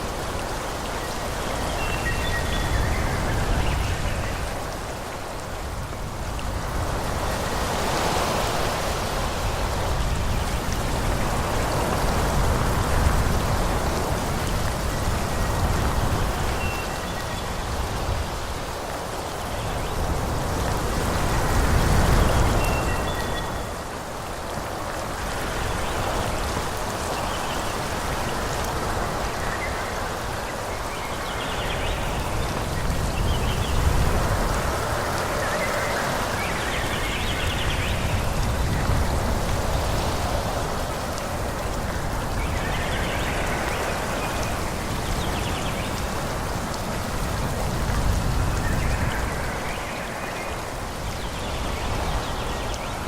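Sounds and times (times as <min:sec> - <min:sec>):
wind rushing through trees: 0:00.0 - 0:53.0.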